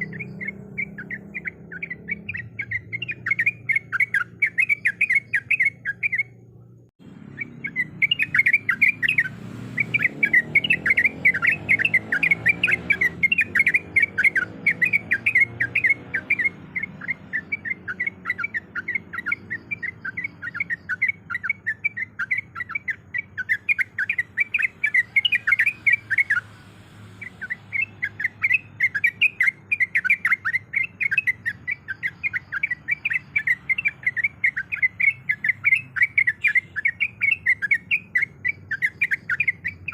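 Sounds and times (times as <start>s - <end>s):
bird chattering in fast runs: 0.0s - 6.4s, 7.2s - 26.5s, 27.2s - 39.9s.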